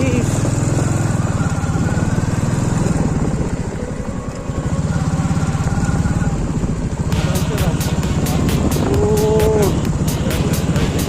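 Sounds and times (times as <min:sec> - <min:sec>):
motorcycle engine pulling hard: 0:00.0 - 0:11.0.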